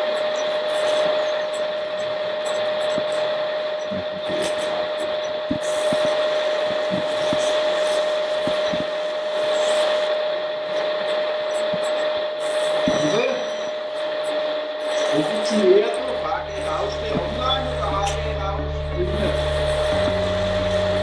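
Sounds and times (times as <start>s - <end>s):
electric motors whining: 0.0s - 21.0s.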